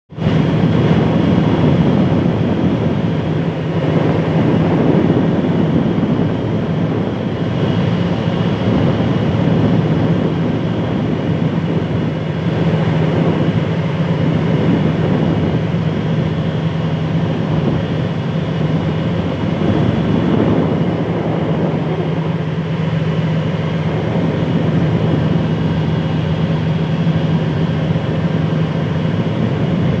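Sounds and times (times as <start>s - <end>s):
boat engine humming: 0.1s - 30.0s
rushing noise: 0.1s - 30.0s.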